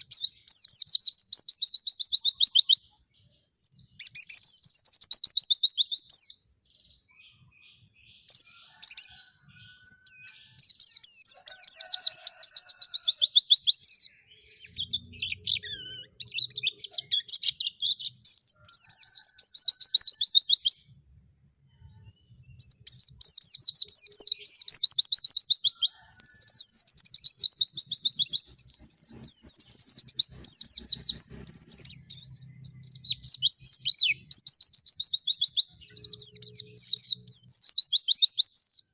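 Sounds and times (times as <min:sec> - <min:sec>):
bird singing high chattering notes: 0:00.0 - 0:38.9.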